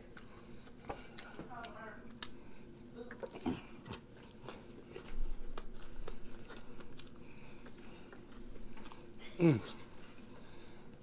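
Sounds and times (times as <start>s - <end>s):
person chewing close to microphone: 0.0s - 11.0s.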